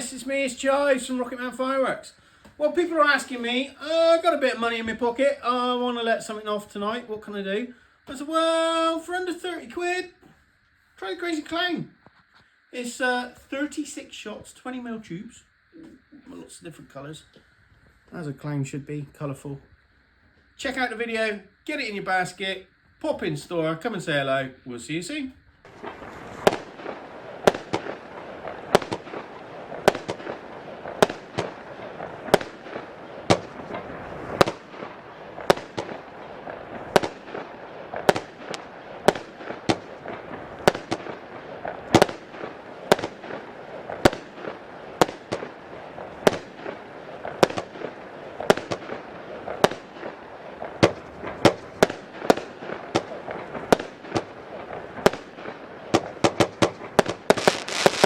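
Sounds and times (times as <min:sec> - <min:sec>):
firework shots: 0:00.0 - 0:10.3, 0:20.4 - 0:58.0
steady hiss: 0:00.0 - 0:58.0.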